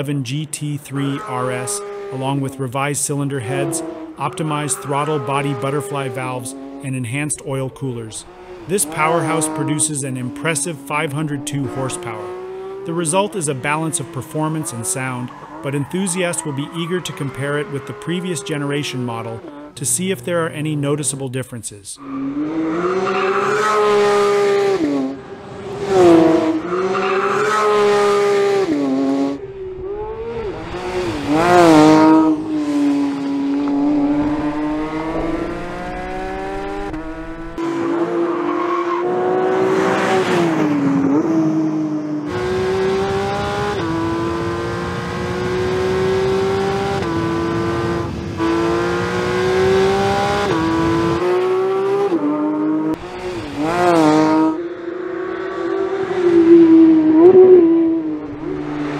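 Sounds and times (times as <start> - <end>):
sports car engine revving: 0.8 - 19.8, 22.0 - 58.9.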